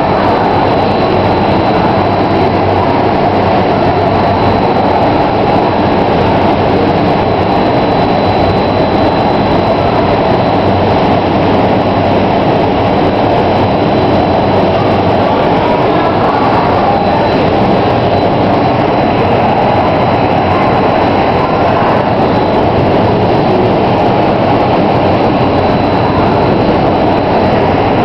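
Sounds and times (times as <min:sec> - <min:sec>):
faint high whine: 0:00.0 - 0:28.0
loud rush of air: 0:00.0 - 0:28.0.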